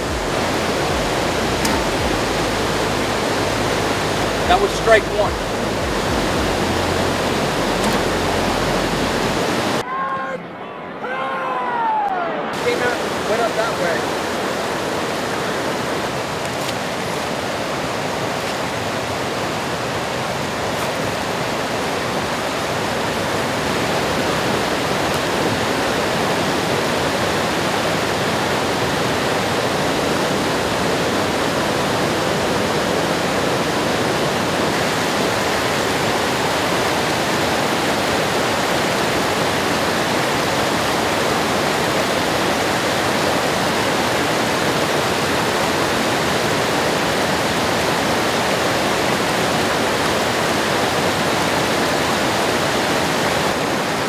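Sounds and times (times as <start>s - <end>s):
river rapids rushing over rocks: 0.0s - 9.8s, 12.6s - 54.0s.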